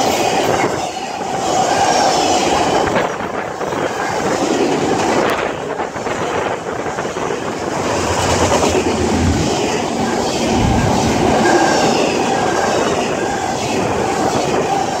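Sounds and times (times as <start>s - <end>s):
freight train rolling past: 0.0s - 15.0s
steel wheels clattering on rails: 0.0s - 15.0s.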